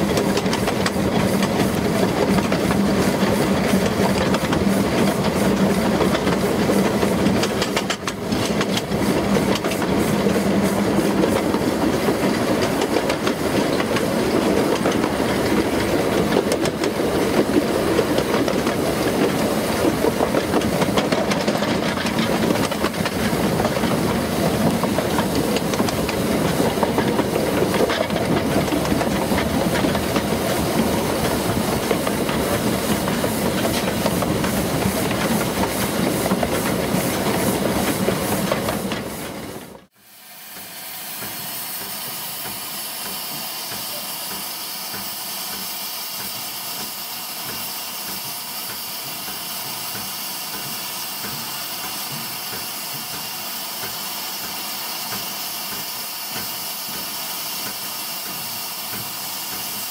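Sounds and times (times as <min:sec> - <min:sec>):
wheels clicking over rail joints: 0:00.0 - 0:40.0, 0:41.2 - 0:59.9
steam locomotive hiss and exhaust: 0:00.0 - 0:59.9.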